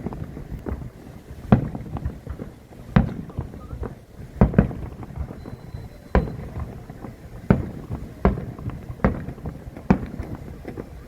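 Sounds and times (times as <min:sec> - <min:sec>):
fireworks booming: 0:00.0 - 0:11.0
small firework pops: 0:00.0 - 0:11.0.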